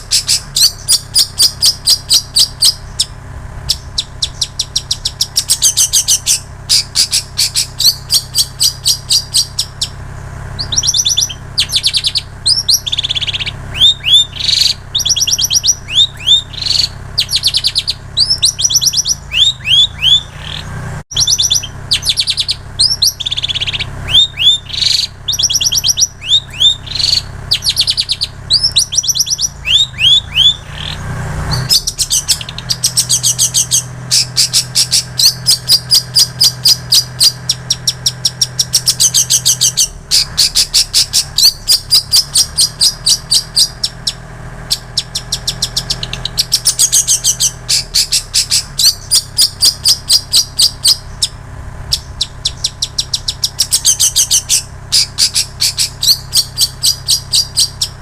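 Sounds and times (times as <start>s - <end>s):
bird singing trills and whistles: 0.0s - 58.0s
low steady hum: 0.0s - 58.0s.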